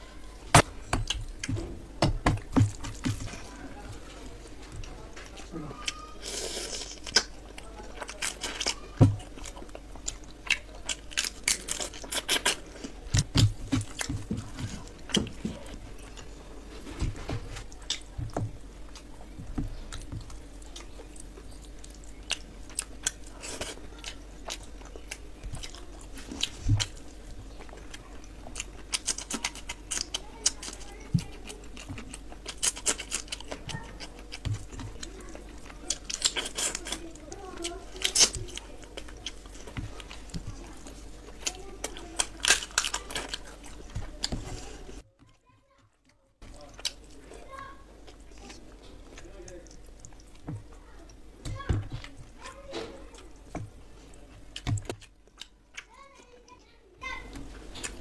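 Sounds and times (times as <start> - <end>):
crunching and chewing: 0.0 - 58.0
fingers working food: 0.0 - 58.0.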